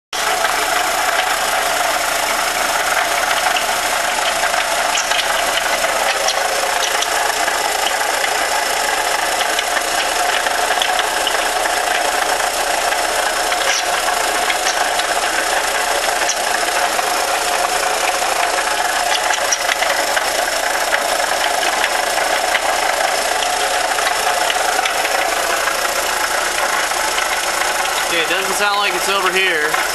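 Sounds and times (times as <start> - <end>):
car engine knocking and rattling: 0.2 - 29.9.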